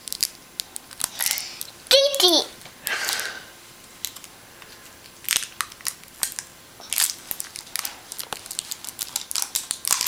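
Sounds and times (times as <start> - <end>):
crinkly packaging crackling: 0.0 - 3.3, 4.0 - 4.3, 5.0 - 10.0.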